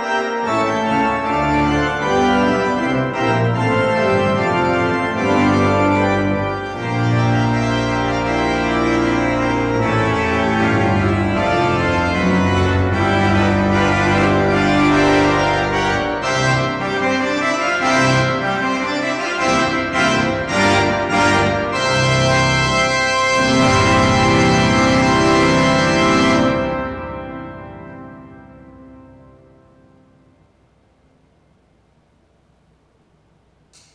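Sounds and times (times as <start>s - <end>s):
organ playing chords and melody: 0.0s - 31.0s.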